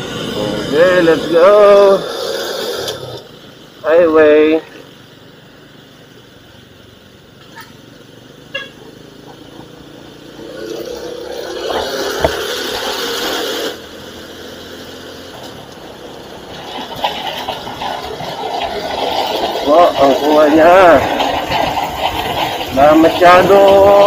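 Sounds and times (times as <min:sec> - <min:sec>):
vehicle road and engine noise: 0:00.0 - 0:24.0.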